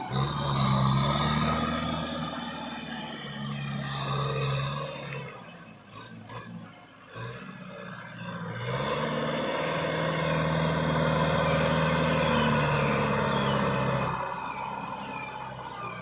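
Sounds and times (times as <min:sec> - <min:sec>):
tractor engine revving: 0:00.0 - 0:16.0.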